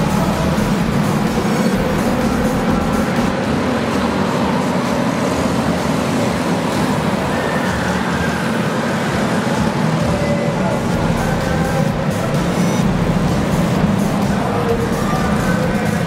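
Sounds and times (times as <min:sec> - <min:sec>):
racing kart engines: 0:00.0 - 0:16.0.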